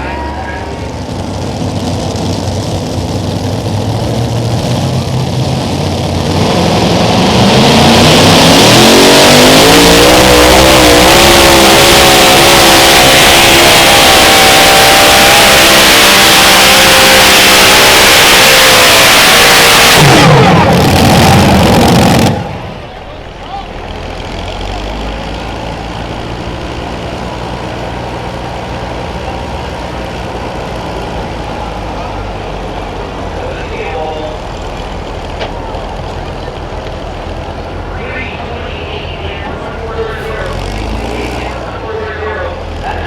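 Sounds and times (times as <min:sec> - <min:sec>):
pulling tractor engines at full throttle: 0:00.0 - 0:43.0.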